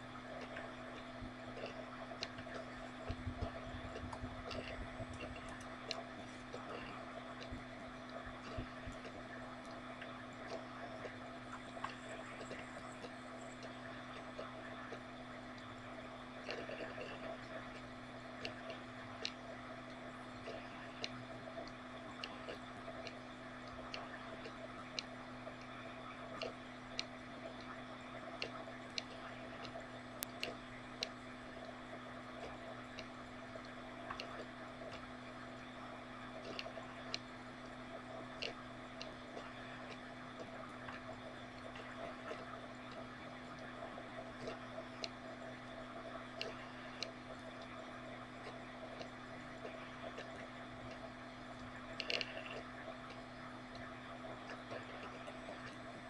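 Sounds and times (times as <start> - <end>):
low hum: 0.0 - 56.0
faint clicks: 0.1 - 56.0.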